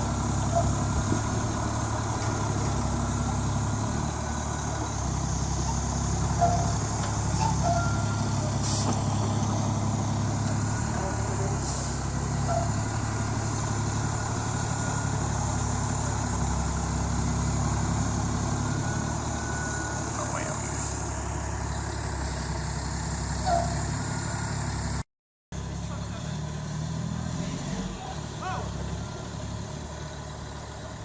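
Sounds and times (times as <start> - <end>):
truck engine droning: 0.0 - 25.0, 25.6 - 31.0.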